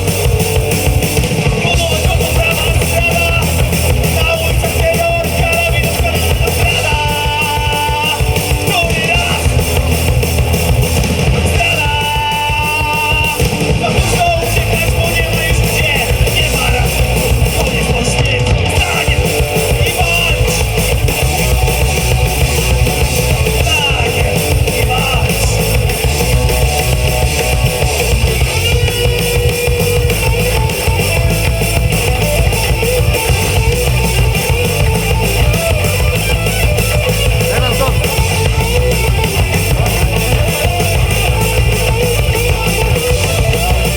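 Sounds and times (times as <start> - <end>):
bass guitar: 0.0 - 43.9
drum kit: 0.0 - 43.9
electric guitars: 0.0 - 43.9.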